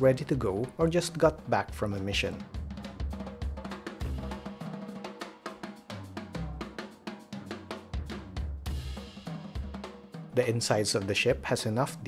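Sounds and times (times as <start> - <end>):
drum kit playing quick beat: 0.0 - 12.0.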